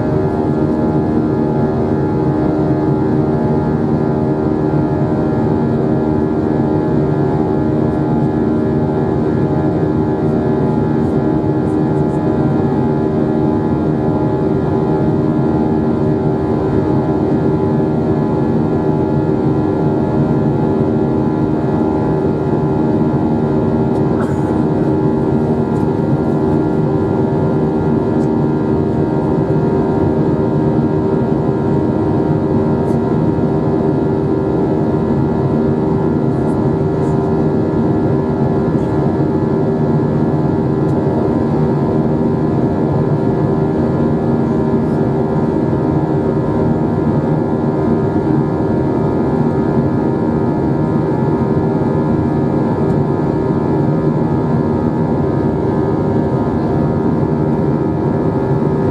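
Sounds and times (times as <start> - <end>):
jet engines droning in cabin: 0.0 - 58.9.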